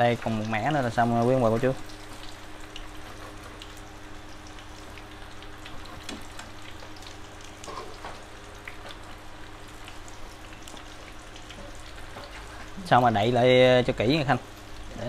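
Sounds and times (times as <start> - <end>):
oil popping and crackling: 0.0 - 15.0
spring rolls sizzling in oil: 0.0 - 15.0.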